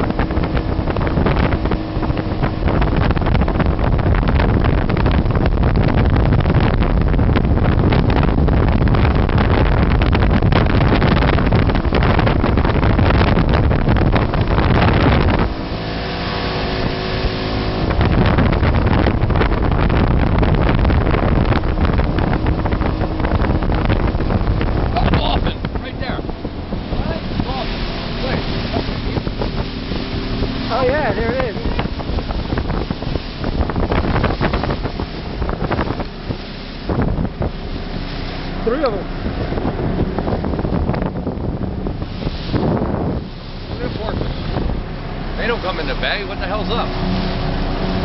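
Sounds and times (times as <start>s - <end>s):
hull rushing through water: 0.0s - 48.0s
motorboat engine: 0.0s - 48.0s
wind buffeting microphone: 0.0s - 48.0s.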